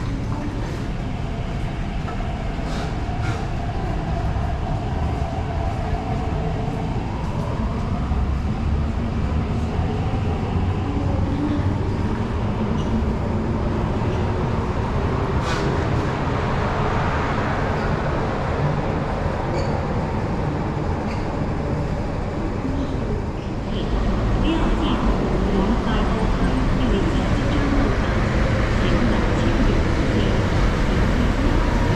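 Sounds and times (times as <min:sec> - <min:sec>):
train rumbling on board: 0:00.0 - 0:31.9.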